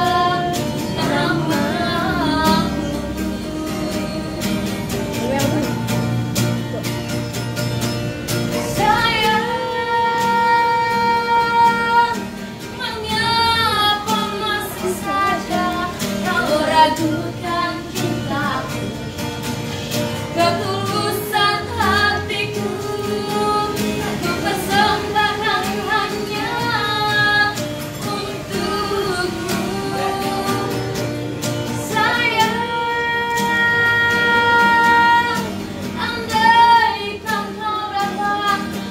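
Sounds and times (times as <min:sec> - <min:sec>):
woman singing: 0:00.0 - 0:06.0, 0:08.6 - 0:19.0, 0:20.3 - 0:38.9
strummed guitar: 0:00.0 - 0:38.9.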